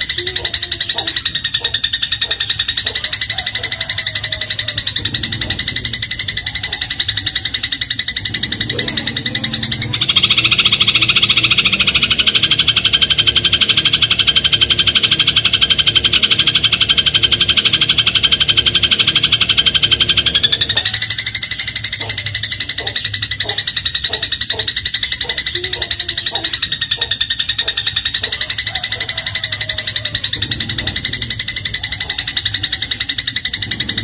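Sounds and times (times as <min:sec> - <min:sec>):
sparrow chirping: 0:00.0 - 0:34.0.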